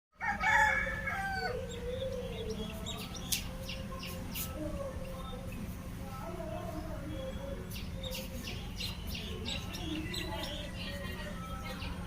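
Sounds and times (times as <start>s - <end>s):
birds calling: 0.2s - 12.0s.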